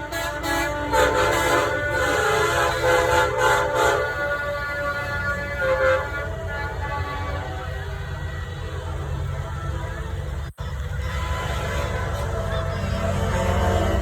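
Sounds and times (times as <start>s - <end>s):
truck air horns blowing chords: 0.0s - 14.0s.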